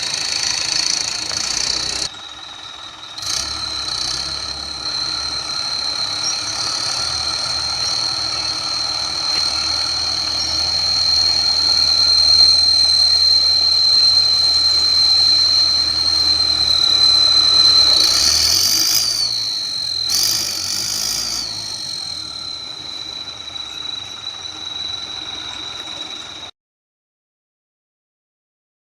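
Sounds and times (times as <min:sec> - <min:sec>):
high turbo whistle: 0:00.0 - 0:26.5
tractor engine running: 0:00.0 - 0:26.5.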